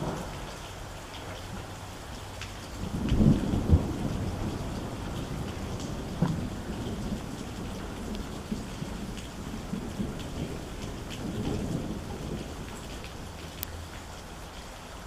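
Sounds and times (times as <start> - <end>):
thunder clap and rumbles: 0.0 - 13.6
heavy rain: 0.0 - 15.0.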